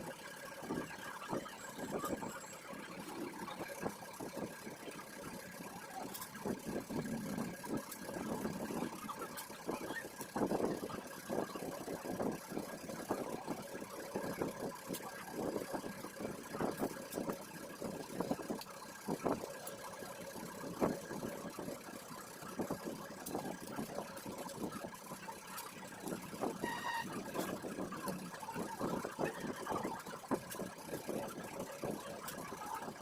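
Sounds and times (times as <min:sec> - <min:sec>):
engine hum: 0:00.0 - 0:33.0.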